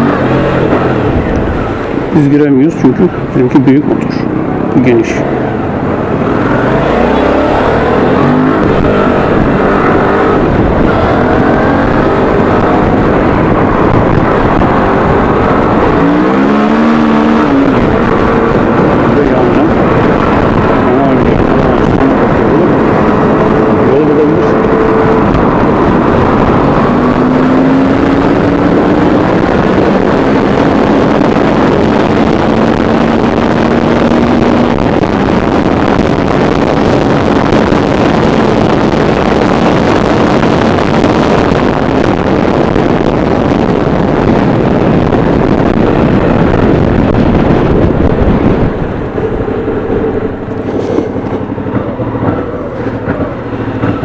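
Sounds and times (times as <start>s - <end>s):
motorcycle engine running: 0.0s - 2.3s, 2.9s - 54.0s
wind noise on microphone: 0.0s - 54.0s.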